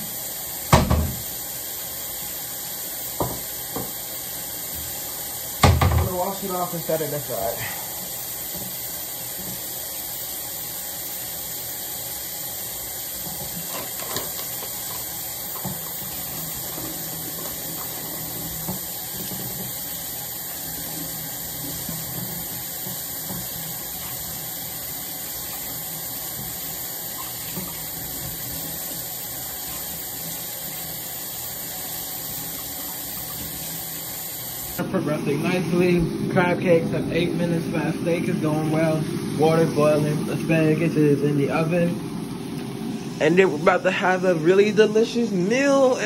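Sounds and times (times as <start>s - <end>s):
kitchen tap running: 0.0s - 46.0s.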